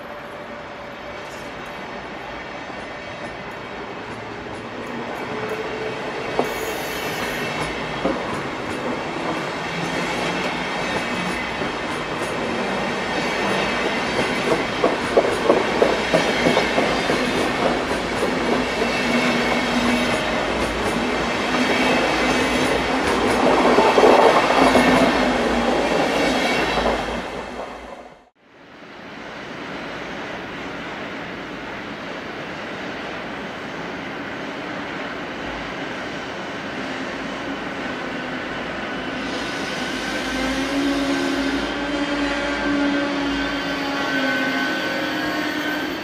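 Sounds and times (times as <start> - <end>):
train coaches rolling past: 0.0 - 46.0.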